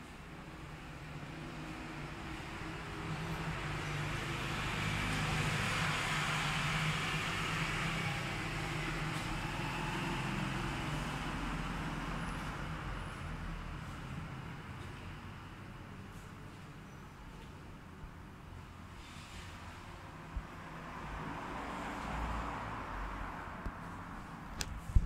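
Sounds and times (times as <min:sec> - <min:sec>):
vehicle passing on street: 0:00.7 - 0:16.6, 0:19.0 - 0:25.0.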